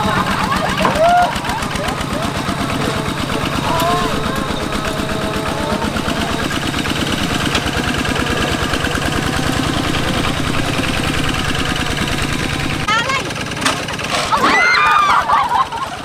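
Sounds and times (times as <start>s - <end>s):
diesel engine chugging: 0.0s - 16.0s.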